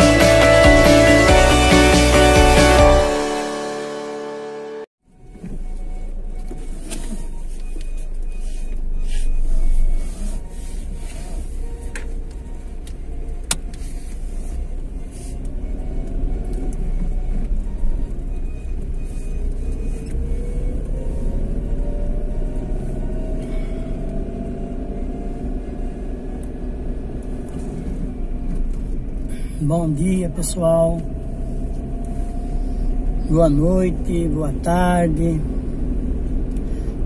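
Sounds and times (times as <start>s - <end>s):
road rumble: 0.0s - 37.0s
car engine from inside cabin: 4.2s - 37.0s.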